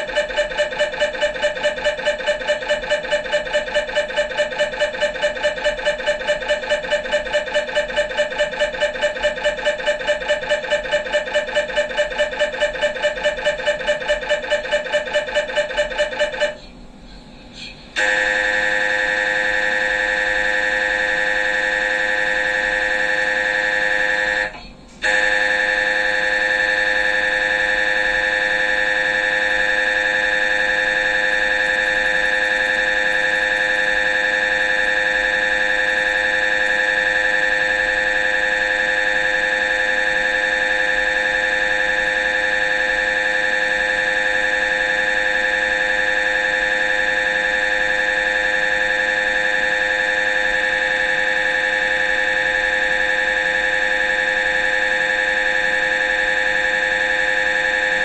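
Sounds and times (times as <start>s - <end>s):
mri scanner high-pitched buzzing: 0.0s - 16.8s, 18.0s - 58.0s.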